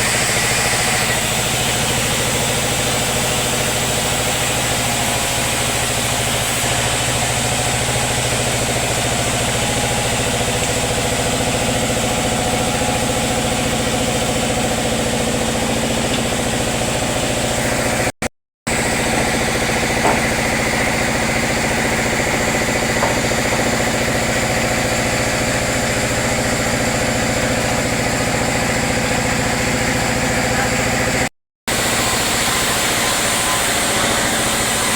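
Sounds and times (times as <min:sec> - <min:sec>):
sawmill machinery drone: 0:00.0 - 0:34.9.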